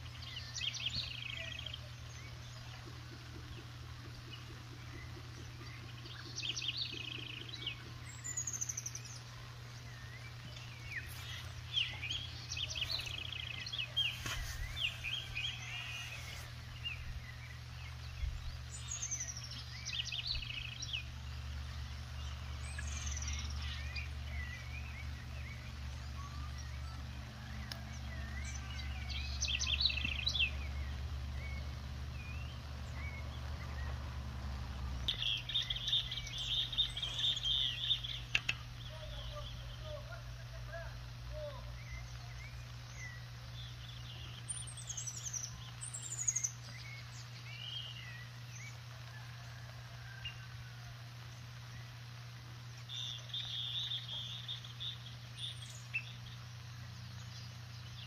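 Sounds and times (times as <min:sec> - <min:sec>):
birds calling and singing: 0:00.0 - 0:58.0
steady low hum: 0:00.0 - 0:58.0.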